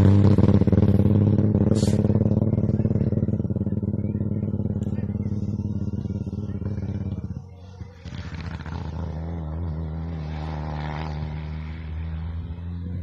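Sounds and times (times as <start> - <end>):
rally car engine pulsing: 0.0 - 13.0
steady engine hum: 0.0 - 13.0.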